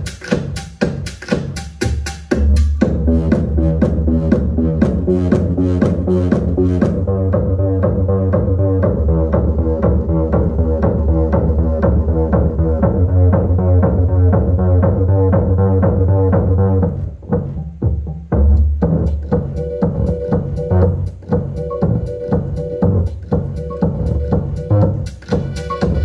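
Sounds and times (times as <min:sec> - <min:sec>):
bass-heavy music with fast beat: 0:00.0 - 0:26.0.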